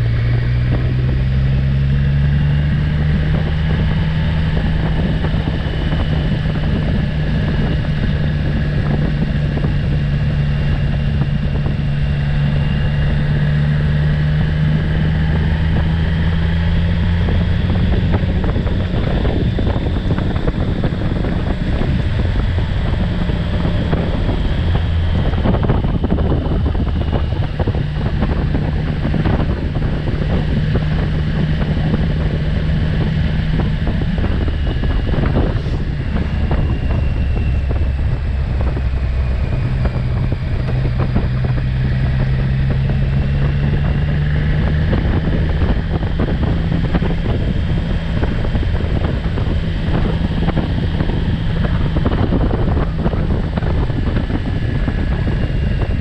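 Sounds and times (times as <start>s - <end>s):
motorcycle engine cruising: 0.0s - 56.0s
wind rushing past microphone: 0.0s - 56.0s.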